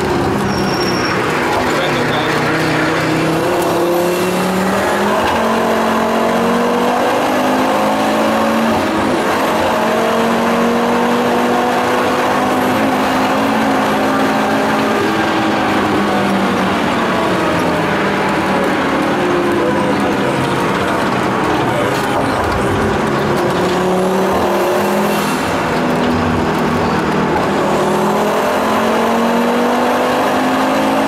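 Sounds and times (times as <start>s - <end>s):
car engine under hard driving: 0.0s - 31.0s
road and tyre noise: 0.0s - 31.0s.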